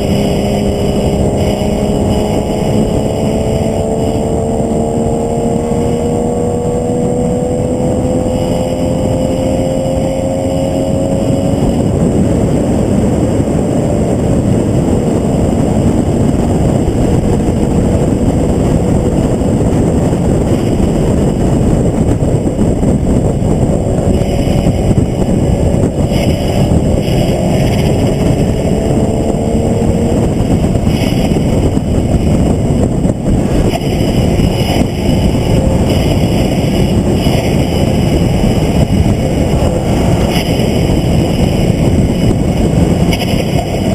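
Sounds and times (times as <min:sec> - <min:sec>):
race car engine accelerating: 0:00.0 - 0:43.9
wind and road noise: 0:00.0 - 0:43.9.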